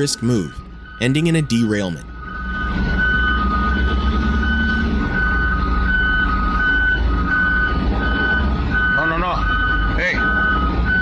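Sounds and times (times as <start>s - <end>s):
engines rumbling: 0.0s - 11.0s
reversing alarms beeping: 0.0s - 11.0s.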